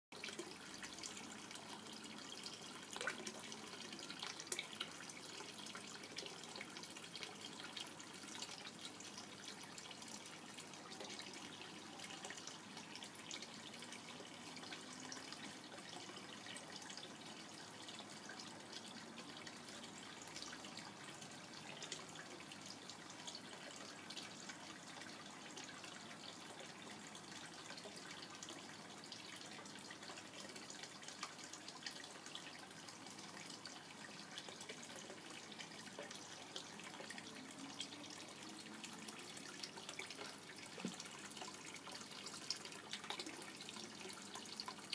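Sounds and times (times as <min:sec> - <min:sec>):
water trickling and dripping: 0:00.2 - 0:44.9.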